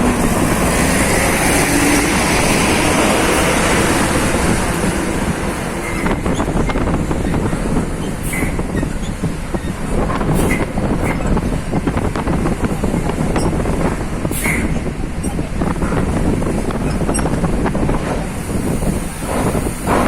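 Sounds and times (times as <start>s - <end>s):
truck diesel engines rumbling: 0.0s - 20.0s.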